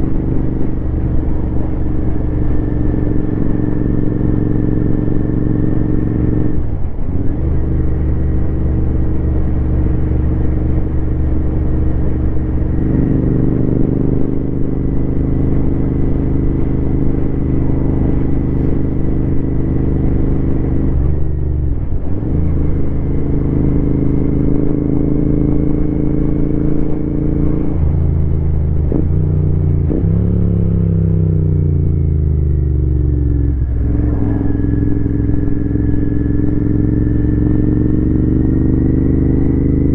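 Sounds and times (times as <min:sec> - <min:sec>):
motorcycle engine running: 0:00.0 - 0:21.9, 0:22.6 - 0:39.9.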